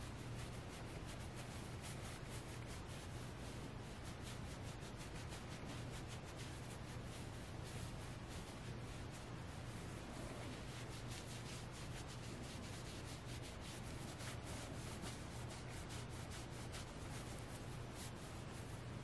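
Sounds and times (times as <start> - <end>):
fingers scratching plush fabric: 0.0 - 19.0.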